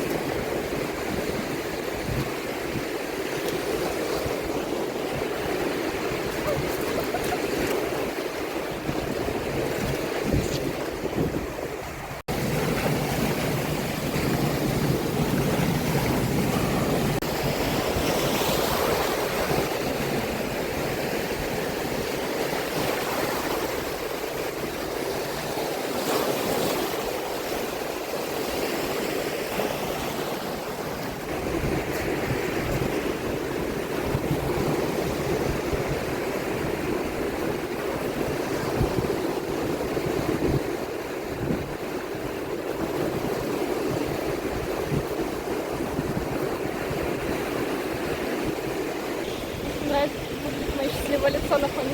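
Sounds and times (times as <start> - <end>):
surf washing onto beach: 0.0 - 51.9
wind noise on microphone: 0.0 - 51.9.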